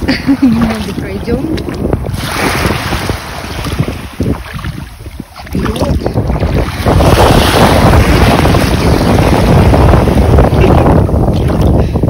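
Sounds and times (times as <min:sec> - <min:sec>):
sea waves washing on shore: 0:00.0 - 0:12.0
wind buffeting microphone: 0:00.0 - 0:12.0.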